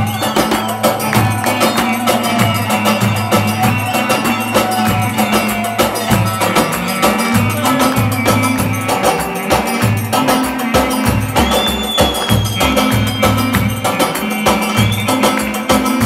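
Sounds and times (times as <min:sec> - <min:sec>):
bass drum beat: 0:00.0 - 0:16.0
clarinet melody: 0:00.0 - 0:16.0.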